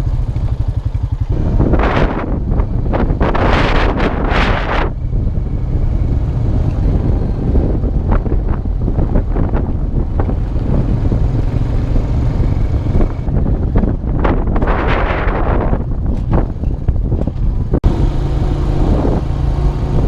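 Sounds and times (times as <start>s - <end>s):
atv engine running: 0.0s - 20.0s
wind buffeting microphone: 0.0s - 20.0s.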